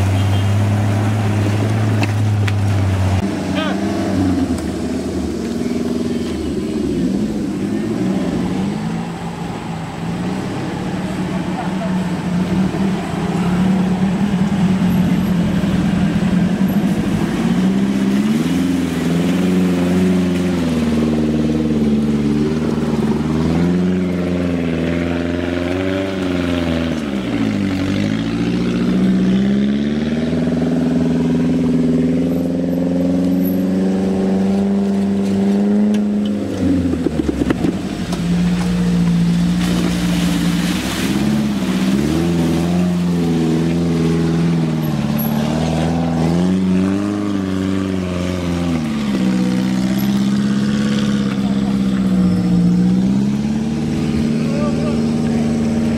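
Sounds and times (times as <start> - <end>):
off-road engines revving: 0.0 - 55.9.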